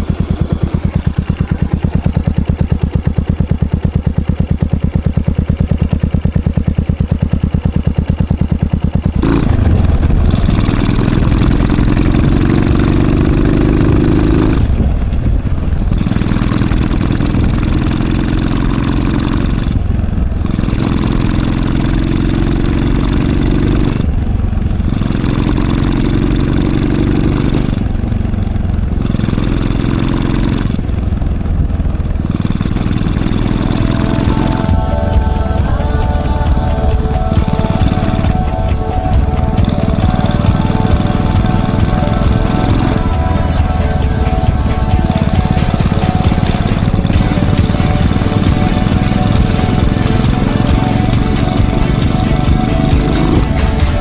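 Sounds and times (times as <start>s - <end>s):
motorcycle engine thumping: 0.0s - 54.0s.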